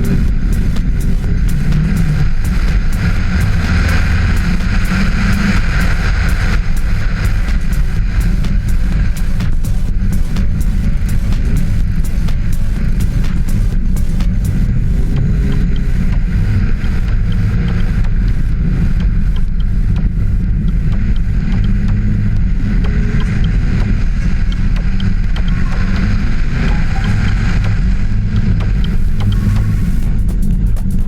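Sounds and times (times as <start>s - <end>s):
hiss: 0.0s - 28.0s, 28.6s - 31.0s
rally car engine rumbling: 0.0s - 31.0s.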